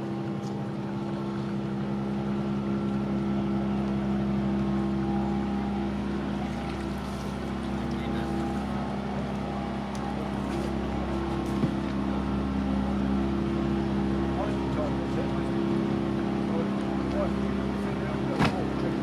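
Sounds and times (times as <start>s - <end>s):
motor boat engine humming: 0.0s - 19.0s.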